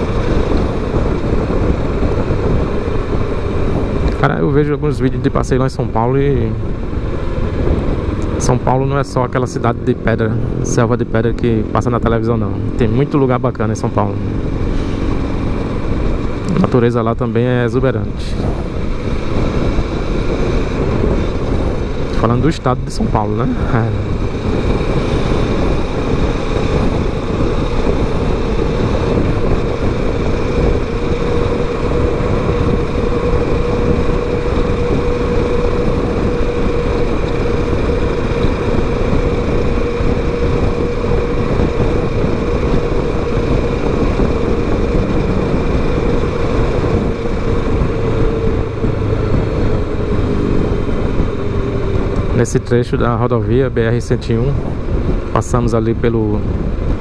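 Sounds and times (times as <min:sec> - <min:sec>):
motorcycle engine drone: 0:00.0 - 0:57.0
wind noise on microphone: 0:00.0 - 0:57.0.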